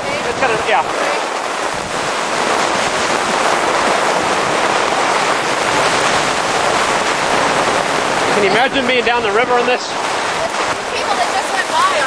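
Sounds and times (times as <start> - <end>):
rain and wind rushing: 0.0 - 12.0.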